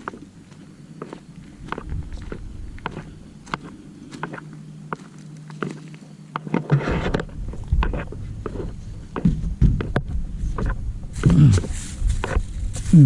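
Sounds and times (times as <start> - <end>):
low microphone rumble: 0.0 - 4.8, 6.8 - 13.0
footsteps on rough ground: 0.0 - 13.0.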